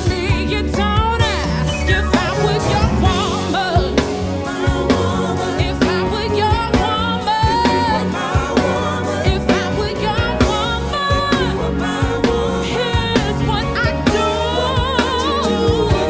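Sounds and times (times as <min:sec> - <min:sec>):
instrumental backing with drum beat: 0:00.0 - 0:16.0
woman singing soul ballad: 0:00.0 - 0:16.0.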